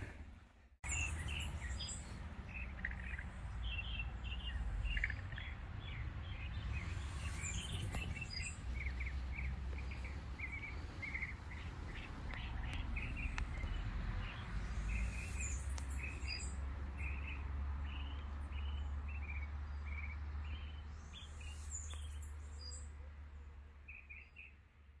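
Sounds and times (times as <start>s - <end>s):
steady low rumble: 0.0s - 22.4s
higher bird calls: 0.8s - 22.8s
birds chirping: 0.8s - 25.0s.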